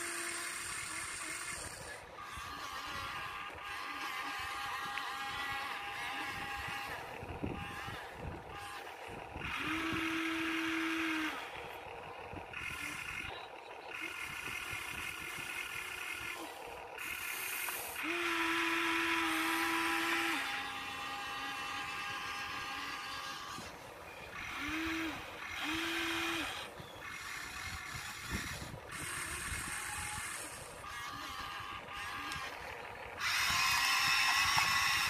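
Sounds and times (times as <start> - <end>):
electric gear motors whirring: 0.0 - 35.0.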